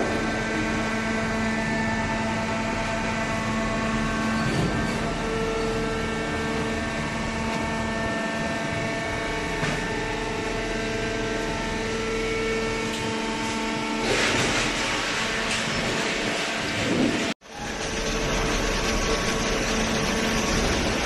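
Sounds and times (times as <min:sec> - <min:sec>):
baler machine humming: 0:00.0 - 0:21.0.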